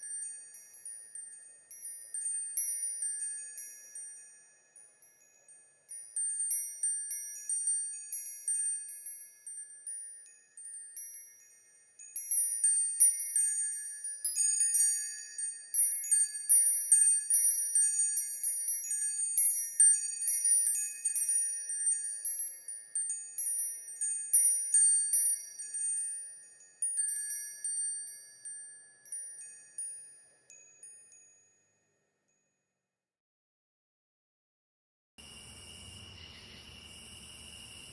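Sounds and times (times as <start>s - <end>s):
metal wind chimes tinkling: 0.0s - 32.7s.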